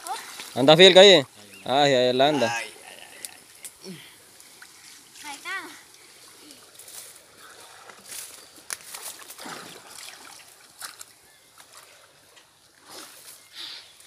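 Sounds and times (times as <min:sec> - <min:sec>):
river water sloshing and splashing: 0:00.0 - 0:01.1, 0:03.4 - 0:14.0.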